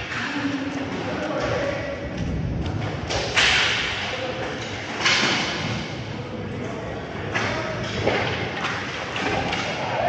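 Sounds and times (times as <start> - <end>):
sharp knocks echoing in a hall: 0.0 - 6.4, 7.1 - 10.0.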